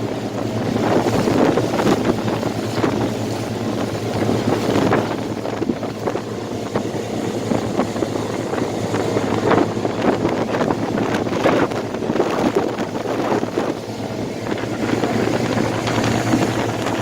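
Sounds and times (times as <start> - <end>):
outboard motors humming: 0.0 - 17.0
water splashing along hull: 0.0 - 17.0
wind buffeting microphone: 0.0 - 17.0.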